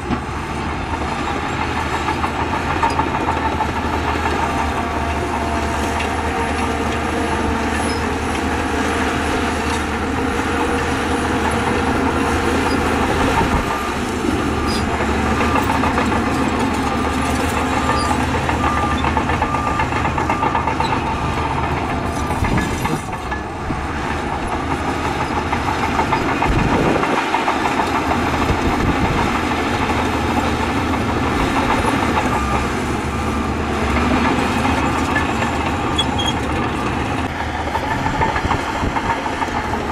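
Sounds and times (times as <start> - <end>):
bulldozer diesel engine: 0.0 - 39.9
steel tracks clattering: 0.0 - 39.9.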